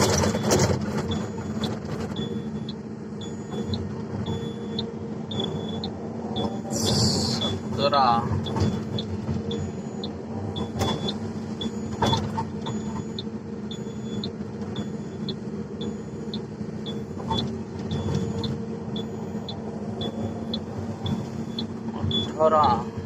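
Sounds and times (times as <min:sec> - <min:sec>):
heavy machinery diesel engine: 0:00.0 - 0:23.0
short high-pitched beeps: 0:00.2 - 0:22.9.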